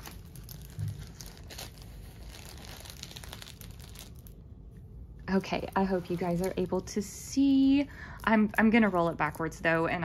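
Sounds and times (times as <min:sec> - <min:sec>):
plastic crinkling: 0:00.0 - 0:04.5, 0:05.3 - 0:10.0.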